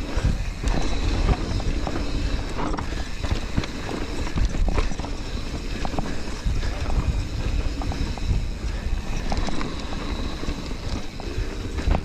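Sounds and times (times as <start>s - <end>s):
bike tyres rumbling: 0.0s - 12.0s
wind rushing over microphone: 0.0s - 12.0s
sharp clicks and rattles: 0.2s - 12.0s.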